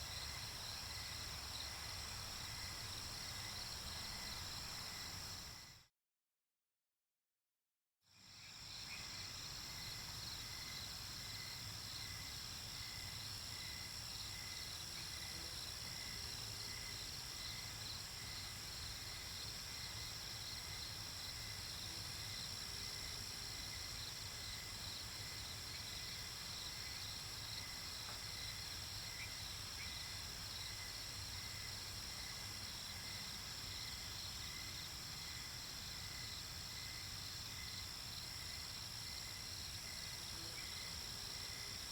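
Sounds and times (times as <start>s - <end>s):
insects chirping: 0.0s - 5.8s, 8.4s - 41.9s.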